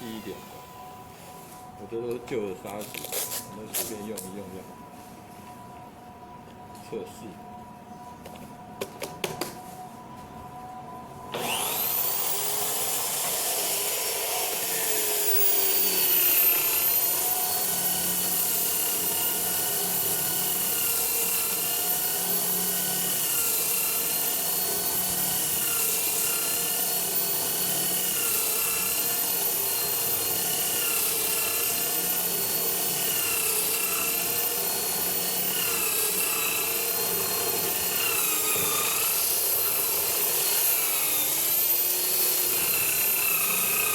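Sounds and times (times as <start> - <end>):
drill motor whine: 0.0 - 4.9, 10.5 - 43.9.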